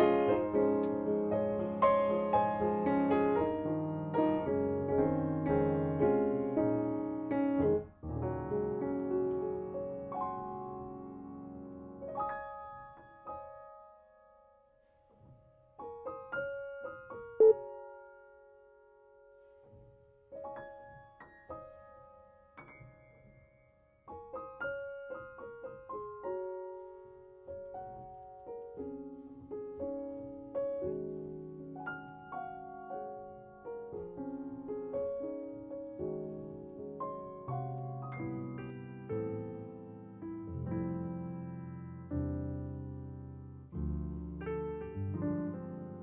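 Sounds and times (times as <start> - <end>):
soft piano music: 0.0 - 46.0.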